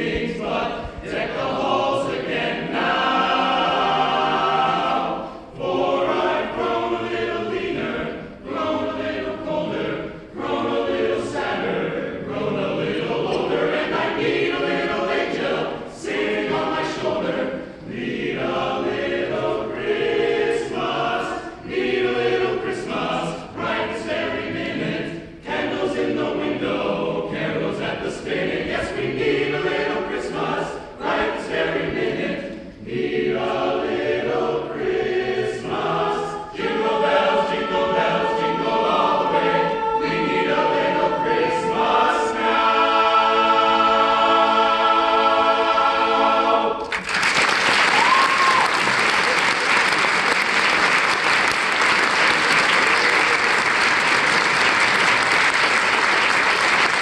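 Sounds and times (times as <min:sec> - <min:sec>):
men's choir singing: 0:00.0 - 0:46.9.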